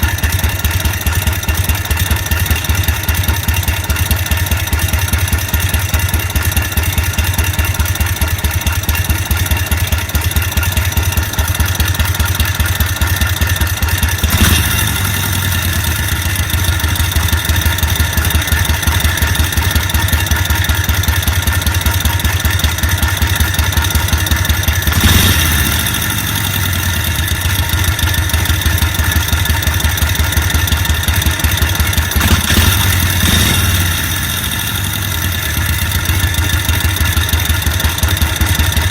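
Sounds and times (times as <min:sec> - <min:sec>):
engine idling with rhythmic beat: 0:00.0 - 0:38.9.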